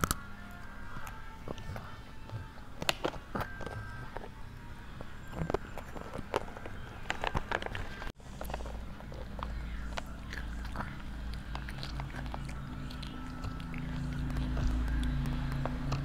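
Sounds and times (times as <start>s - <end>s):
low steady hum: 0.0s - 16.0s
toddler chewing crunchy snack: 0.0s - 16.0s.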